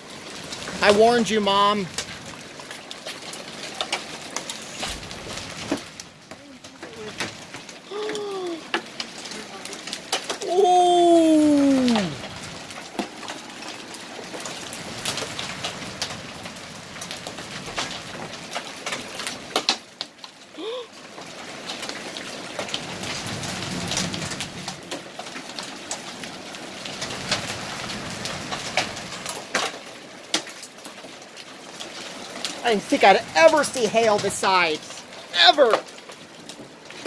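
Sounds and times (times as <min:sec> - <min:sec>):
hailstones striking hard surfaces: 0:00.0 - 0:37.0
rain hissing: 0:00.0 - 0:37.0.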